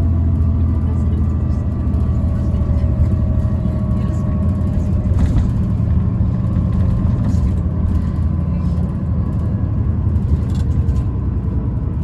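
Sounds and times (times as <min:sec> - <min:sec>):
bus drive and road rumble: 0:00.0 - 0:12.0.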